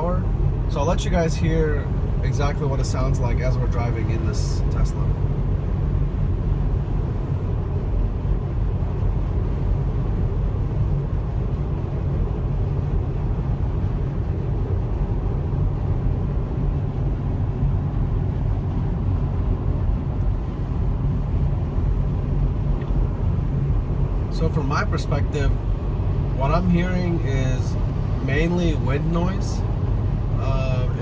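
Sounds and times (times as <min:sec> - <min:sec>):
tyre road noise: 0:00.0 - 0:31.0.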